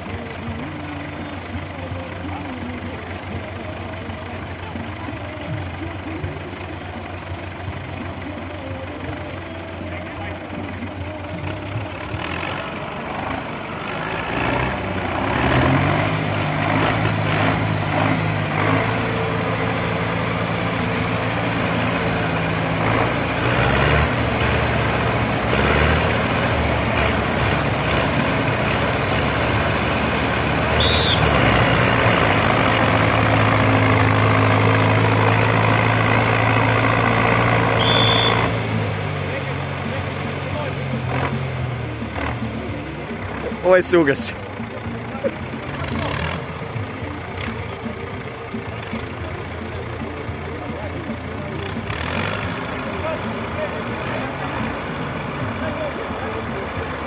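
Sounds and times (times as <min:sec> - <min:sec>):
tractor engines working hard: 0:00.0 - 0:57.0.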